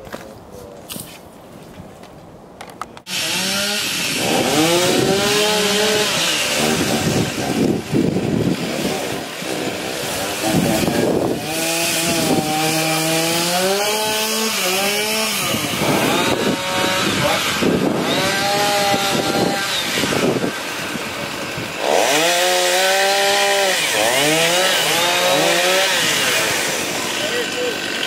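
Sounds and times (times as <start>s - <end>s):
chainsaw revving: 3.1s - 28.0s.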